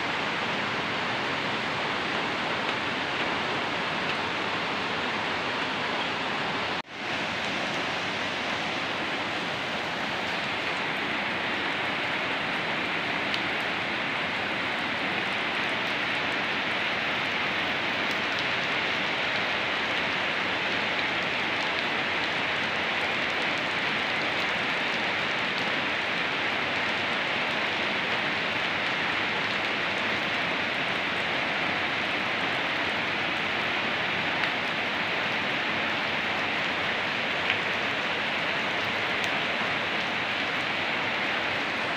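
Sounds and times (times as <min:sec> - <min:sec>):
rain on wet concrete road: 0:00.0 - 0:41.9.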